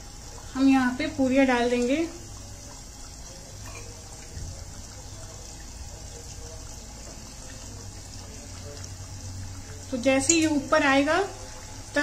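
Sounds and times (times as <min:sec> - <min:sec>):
soft oil sizzle: 0:00.0 - 0:12.0.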